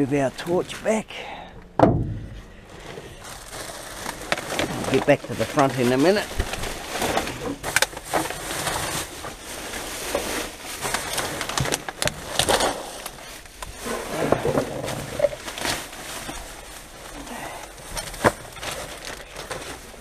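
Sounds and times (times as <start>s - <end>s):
plastic bags rustling: 0.0s - 20.0s.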